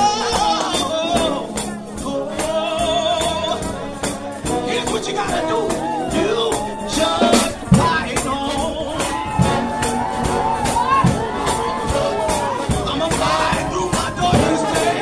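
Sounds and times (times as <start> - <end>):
gospel singing: 0.0 - 15.0
tambourine-like percussion beat: 0.0 - 15.0.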